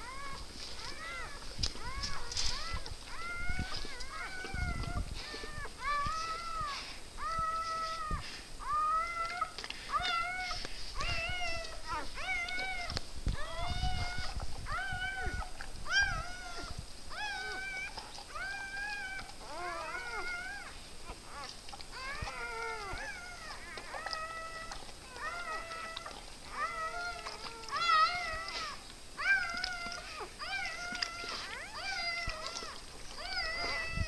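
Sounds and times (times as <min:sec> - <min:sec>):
puppies crying: 0:00.0 - 0:34.0.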